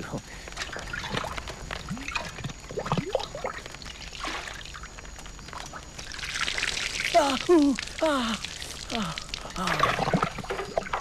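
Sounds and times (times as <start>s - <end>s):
water splashing and trickling: 0.0s - 11.0s
water poured over person: 0.4s - 11.0s.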